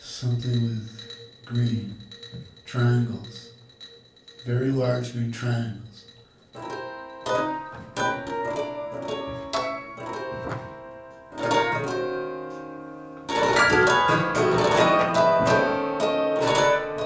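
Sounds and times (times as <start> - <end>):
plucked string instrument notes: 0.3 - 17.0.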